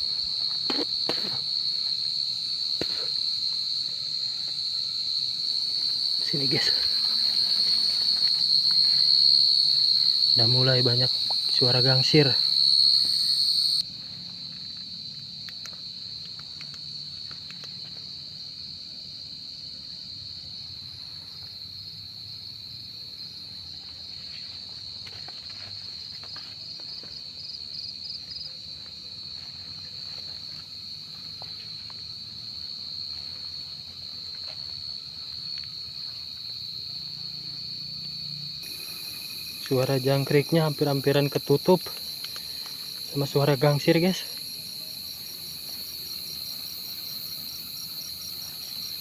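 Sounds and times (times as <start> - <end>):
crickets trilling: 0.0 - 49.0
field crickets chirping: 0.0 - 49.0.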